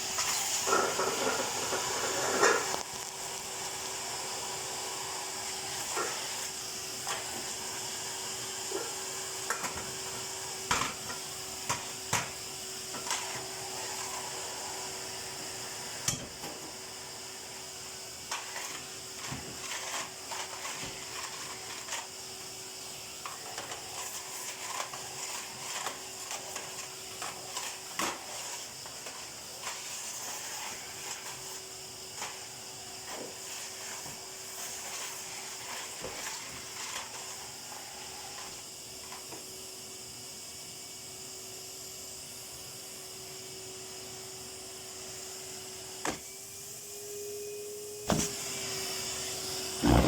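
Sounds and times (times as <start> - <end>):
vacuum cleaner humming: 0.0 - 50.0.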